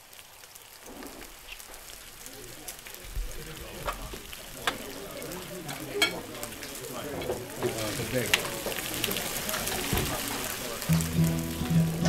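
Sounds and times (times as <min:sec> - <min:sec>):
food frying with a sizzle: 0:00.0 - 0:12.0
faint voices murmuring: 0:02.1 - 0:12.0.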